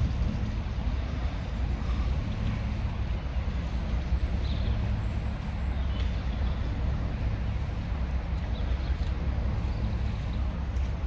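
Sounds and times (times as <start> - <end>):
diesel locomotive engine idling: 0.0 - 11.0.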